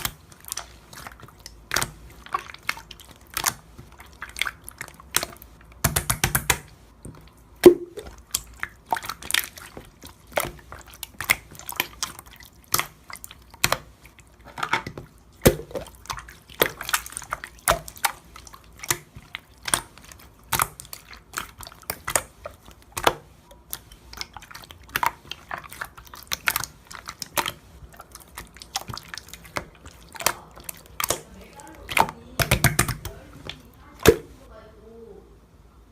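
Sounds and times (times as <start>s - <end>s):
slime squishing with wet clicks: 0.0s - 34.6s.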